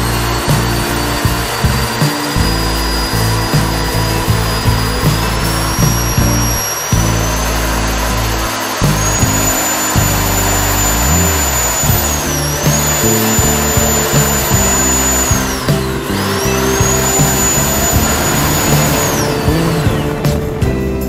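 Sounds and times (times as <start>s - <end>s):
background music: 0.0s - 21.0s
electric fan whine: 0.0s - 21.0s.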